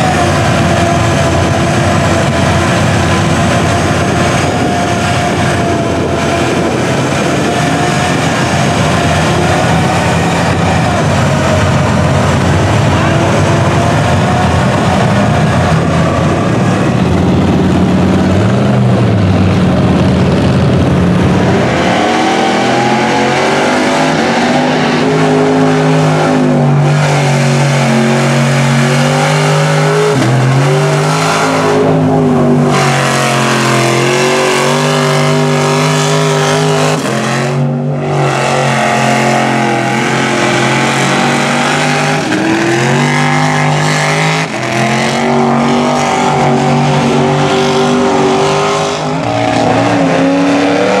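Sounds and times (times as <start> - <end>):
truck engines revving: 0.0 - 51.0.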